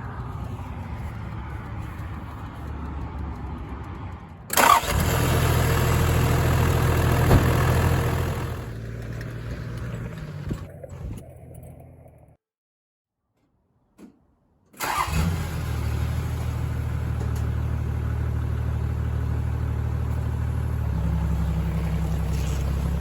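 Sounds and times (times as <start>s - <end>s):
diesel engine running: 0.0s - 12.4s, 14.8s - 23.0s.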